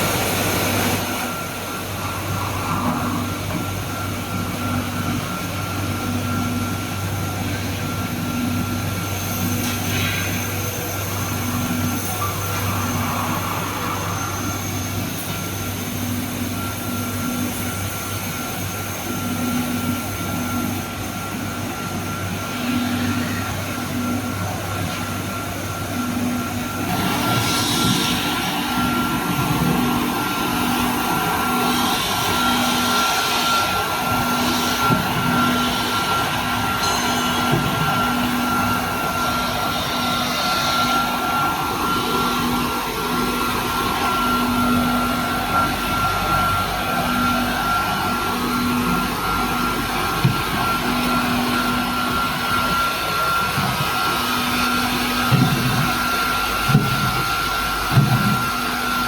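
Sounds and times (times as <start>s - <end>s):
washing machine drone and whine: 0.0s - 59.0s.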